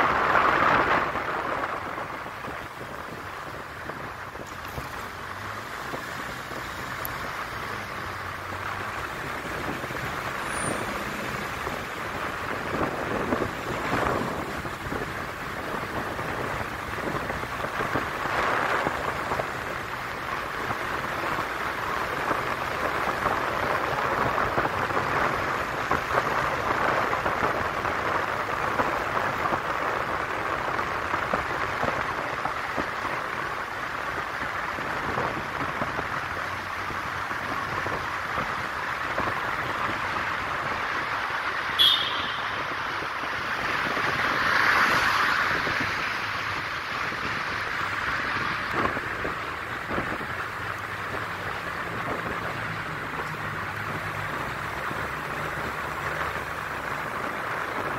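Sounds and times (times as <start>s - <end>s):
tyre and wind noise: 0.0s - 57.9s.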